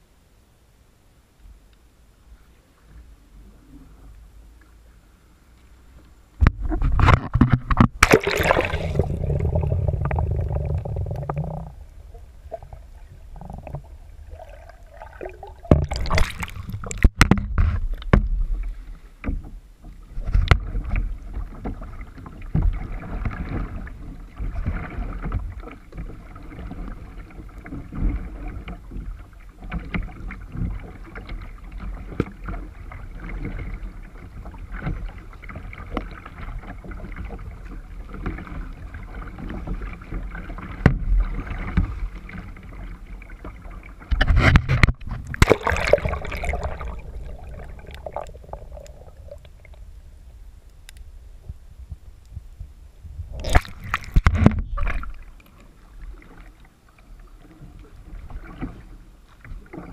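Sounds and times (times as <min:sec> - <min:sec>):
muffled underwater rumble: 0:01.5 - 0:59.9
water splashing with paddle strokes: 0:02.3 - 0:50.1, 0:53.3 - 0:59.9.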